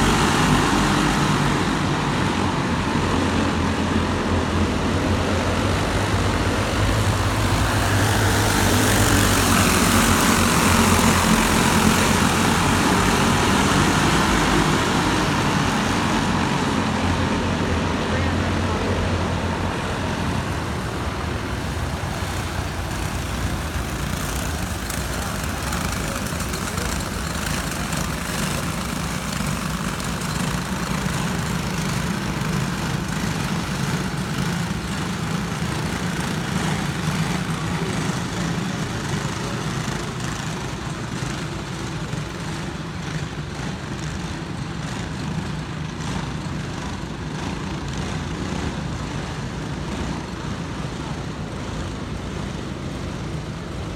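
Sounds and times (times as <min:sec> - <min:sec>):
racing kart engines: 0:00.0 - 0:53.9.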